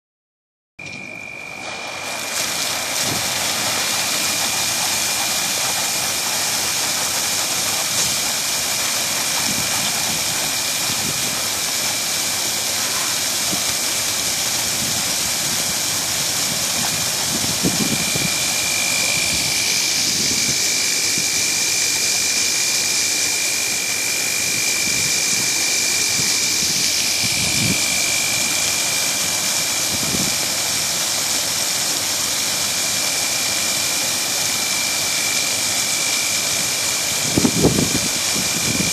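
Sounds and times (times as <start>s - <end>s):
thin steady whine: 0.8s - 38.9s
water jets spraying on steel grates: 1.4s - 38.9s.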